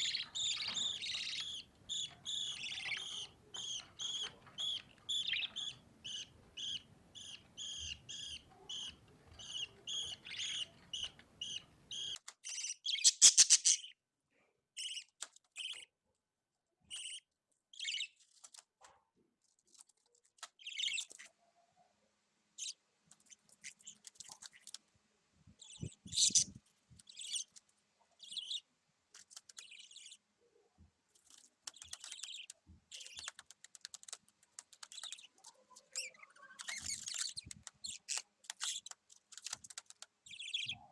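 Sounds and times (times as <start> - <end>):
budgie chicks chirping: 0.0 - 14.0, 14.8 - 15.9, 16.8 - 18.6, 20.4 - 21.4, 22.6 - 24.8, 25.6 - 30.3, 31.2 - 40.9.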